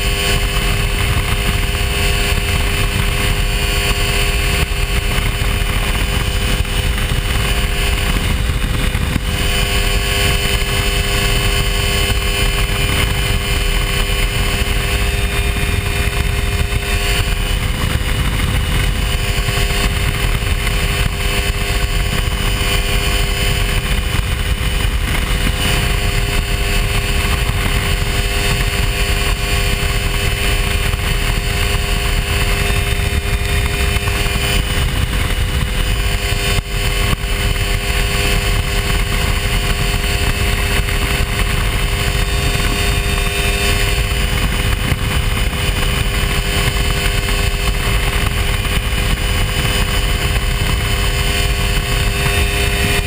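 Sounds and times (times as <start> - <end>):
airplane engine and propeller drone: 0.0 - 53.0.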